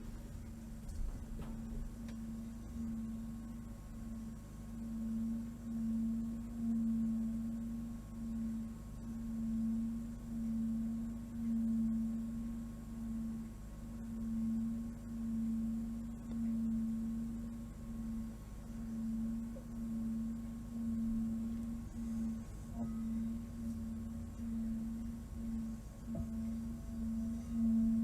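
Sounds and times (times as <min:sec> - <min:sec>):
low pure drone tone: 0:00.0 - 0:28.0.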